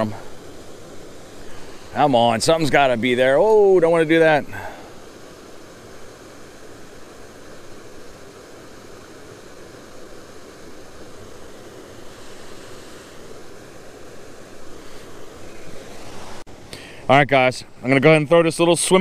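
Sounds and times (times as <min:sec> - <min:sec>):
water rushing at a spillway: 0:00.0 - 0:19.0.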